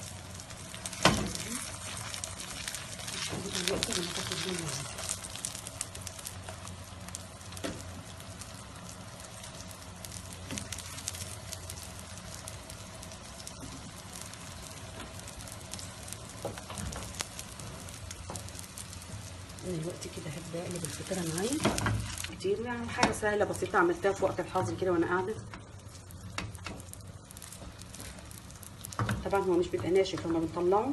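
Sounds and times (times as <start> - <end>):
pastry sizzling with pops: 0.0 - 30.9.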